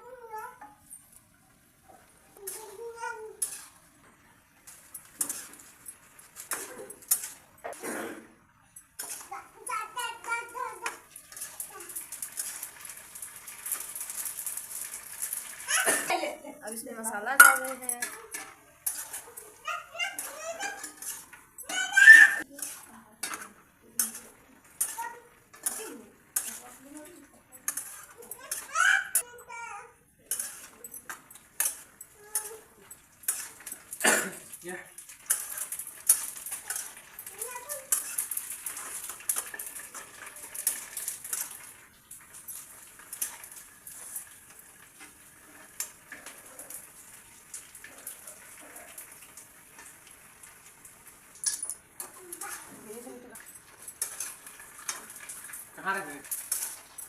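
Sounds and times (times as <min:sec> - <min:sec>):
light sizzle of frying: 0:00.0 - 0:57.0
metal spoon scraping a pan: 0:02.4 - 0:08.2, 0:08.9 - 0:29.5, 0:30.2 - 0:57.0.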